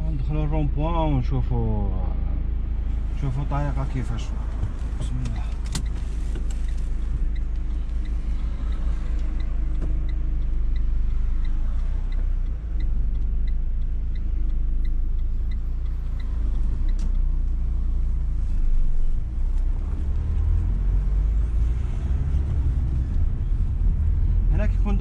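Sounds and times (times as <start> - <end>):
car engine and road rumble: 0.0 - 25.0
light even ticking: 3.4 - 25.0.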